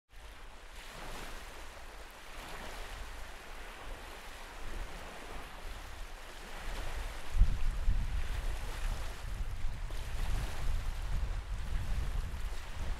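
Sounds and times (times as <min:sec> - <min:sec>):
waves breaking on shore: 0:00.1 - 0:12.9
wind rumbling on microphone: 0:00.2 - 0:12.9.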